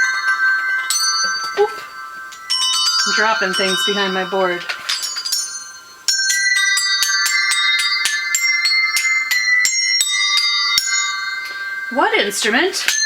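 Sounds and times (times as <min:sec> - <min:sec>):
tuned bells struck with mallet: 0:00.0 - 0:13.0.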